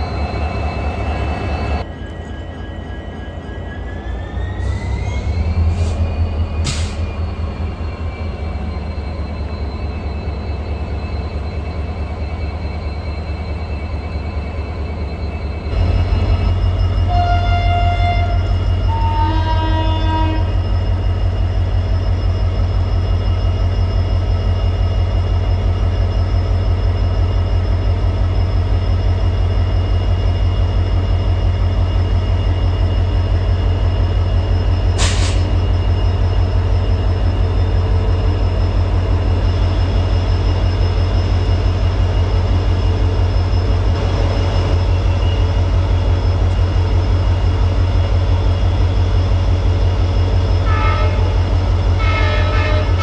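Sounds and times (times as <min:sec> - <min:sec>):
diesel locomotive engine humming: 0:00.0 - 0:53.0.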